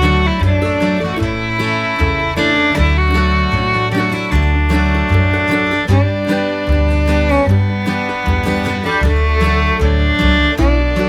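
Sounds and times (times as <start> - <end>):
upbeat bluegrass instrumental: 0.0 - 11.0.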